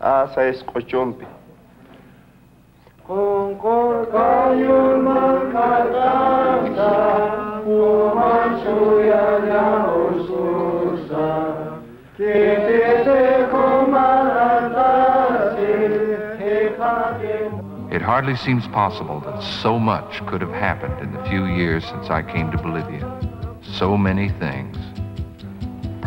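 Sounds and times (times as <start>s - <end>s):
congregation singing a hymn: 3.0s - 24.7s.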